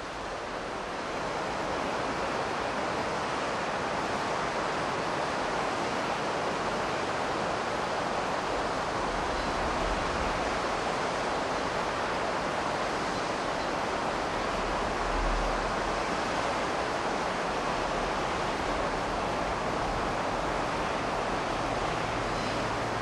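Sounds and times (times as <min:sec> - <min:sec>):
river water rushing over a weir: 0:00.0 - 0:23.0.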